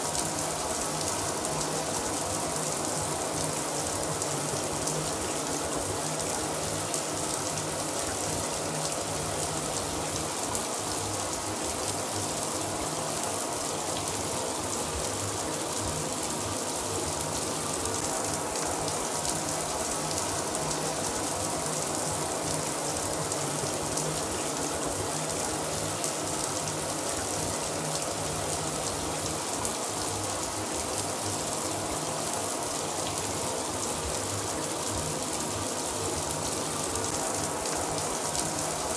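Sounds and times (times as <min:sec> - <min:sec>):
shower running: 0:00.0 - 0:38.9.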